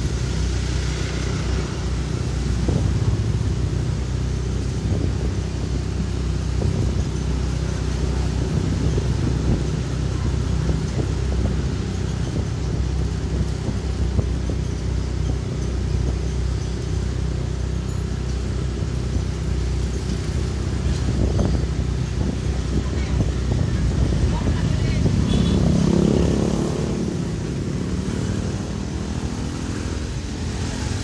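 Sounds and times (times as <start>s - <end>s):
motorcycle engine cruising: 0.0s - 31.0s
road and wind noise: 0.0s - 31.0s.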